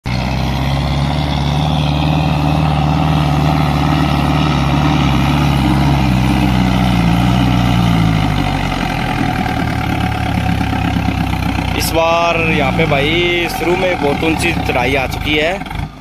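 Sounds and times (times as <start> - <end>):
diesel tractor engine under load: 0.0 - 16.0.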